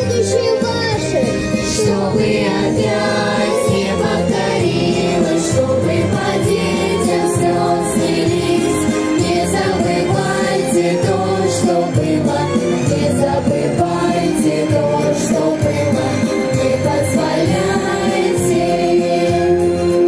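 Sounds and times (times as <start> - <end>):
backing track with steady beat: 0.0 - 20.0
children's group singing: 1.6 - 20.0.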